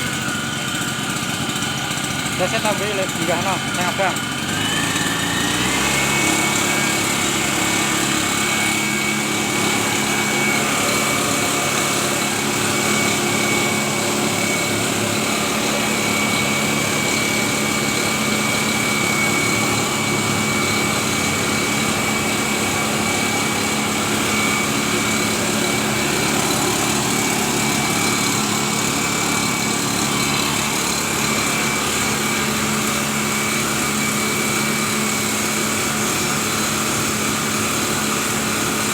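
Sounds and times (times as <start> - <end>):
small two-stroke engine running: 0.0 - 38.9.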